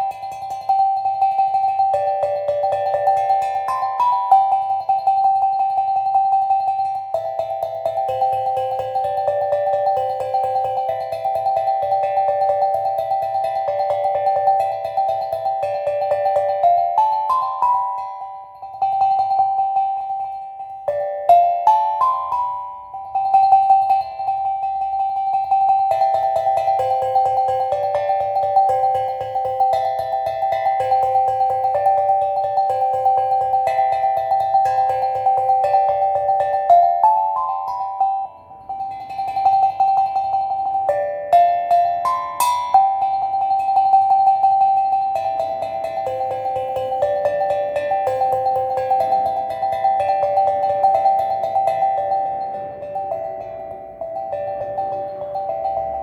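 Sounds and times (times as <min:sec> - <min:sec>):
steel tongue drum notes: 0:00.0 - 0:56.0.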